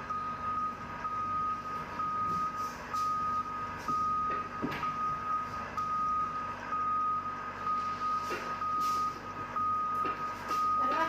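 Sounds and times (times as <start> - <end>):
low engine hum: 0.0 - 11.0
reversing alarm beeping: 0.0 - 11.0.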